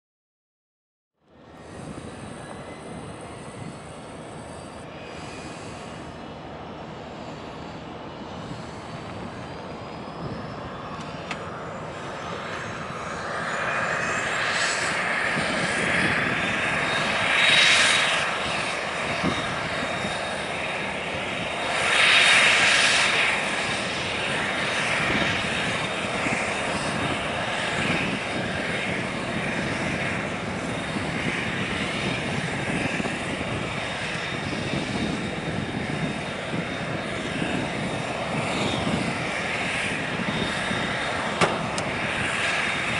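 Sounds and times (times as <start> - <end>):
turboprop engines whining: 1.2 - 42.9.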